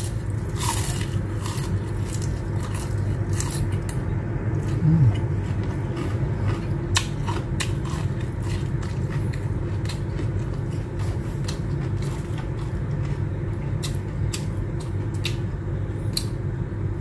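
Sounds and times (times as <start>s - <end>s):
crunchy chewing: 0.0s - 16.4s
low background hum: 0.0s - 17.0s.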